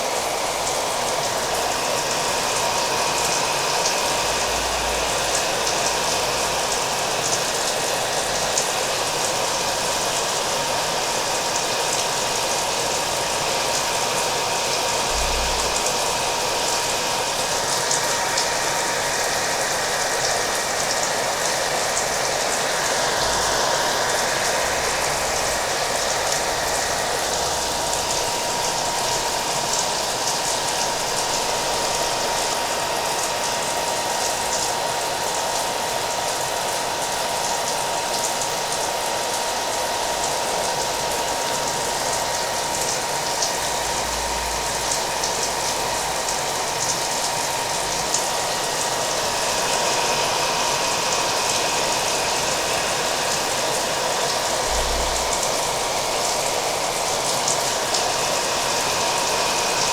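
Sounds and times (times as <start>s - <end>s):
hair dryer blowing: 0.0s - 59.9s.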